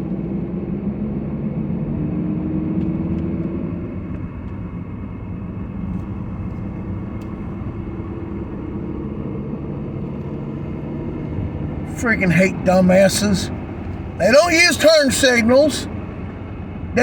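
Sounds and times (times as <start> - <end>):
car engine hum: 0.0 - 17.0.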